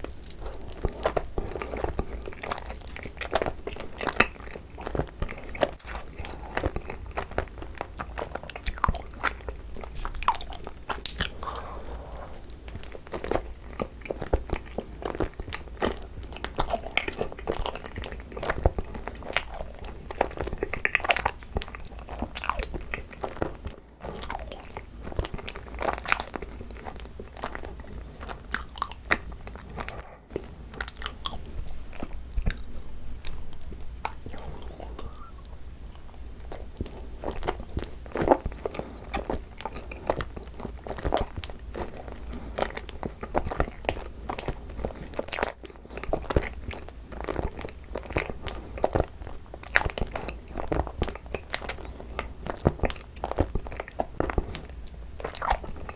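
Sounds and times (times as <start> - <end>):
chewing sticky rice cakes: 0.0 - 55.9.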